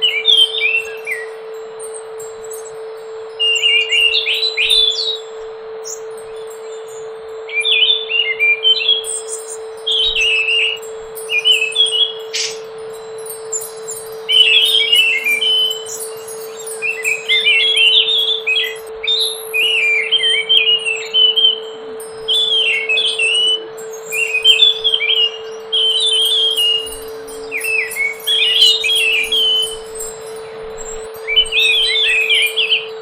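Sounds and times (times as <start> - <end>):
steady low hum: 0.0 - 33.0
thrush singing: 0.0 - 33.0.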